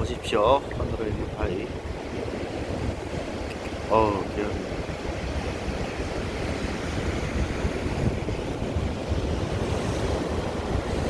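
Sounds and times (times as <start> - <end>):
waves breaking over rocks: 0.0 - 11.0
wind rumbling on microphone: 0.0 - 11.0.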